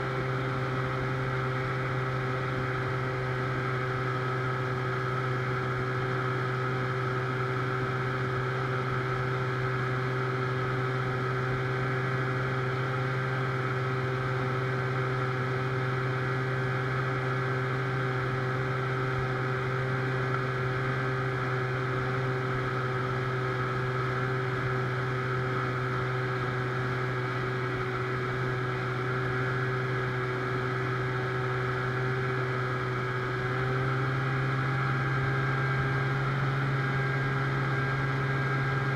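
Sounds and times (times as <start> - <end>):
outboard motor droning: 0.0 - 38.9.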